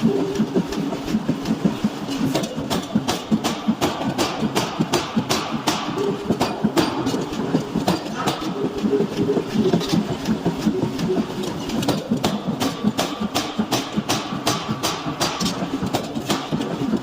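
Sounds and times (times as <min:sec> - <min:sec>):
mechanical clatter: 0:00.0 - 0:17.0.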